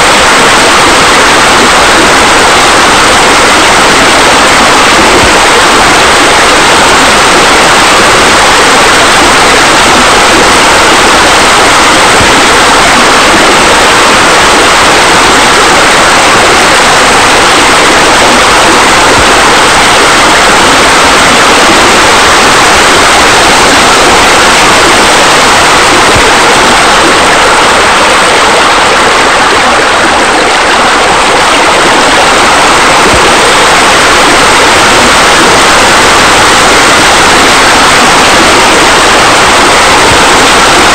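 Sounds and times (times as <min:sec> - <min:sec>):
water rushing like a waterfall: 0:00.0 - 0:40.9.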